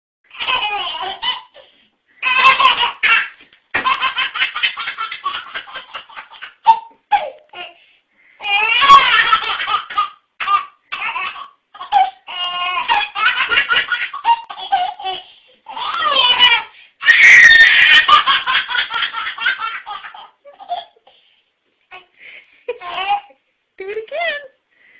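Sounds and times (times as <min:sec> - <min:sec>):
baby laughing: 0:00.3 - 0:07.8, 0:08.4 - 0:21.0, 0:22.7 - 0:23.4.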